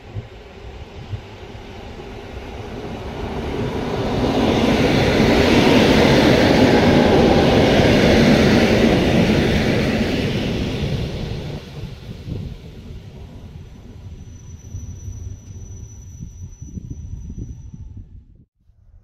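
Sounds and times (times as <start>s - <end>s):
train passing at speed: 0.0s - 18.1s.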